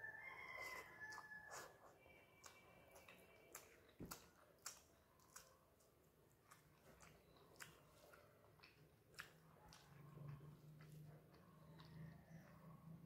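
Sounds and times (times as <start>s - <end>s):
chewing rice: 0.1s - 13.0s.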